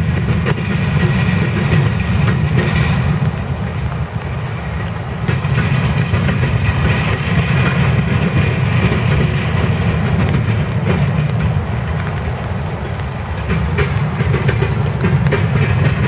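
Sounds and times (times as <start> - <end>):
train wheels rumbling on rails: 0.0 - 16.0
wheels clicking over rail joints: 0.0 - 16.0.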